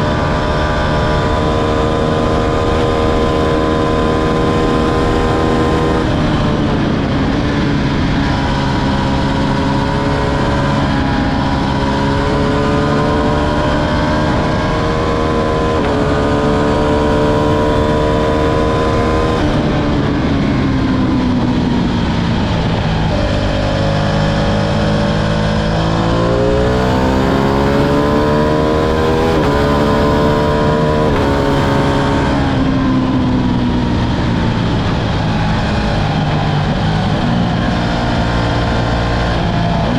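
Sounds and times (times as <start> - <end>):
motorcycle engine revving through upshifts: 0.0 - 39.9.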